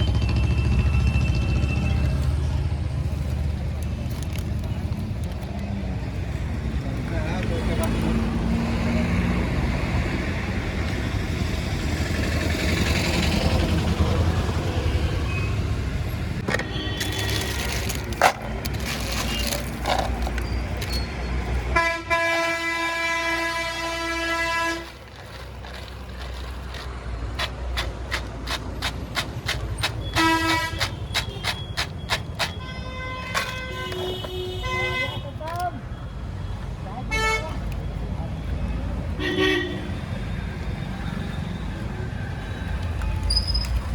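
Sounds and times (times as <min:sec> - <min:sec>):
roadside traffic noise: 0:00.0 - 0:43.9.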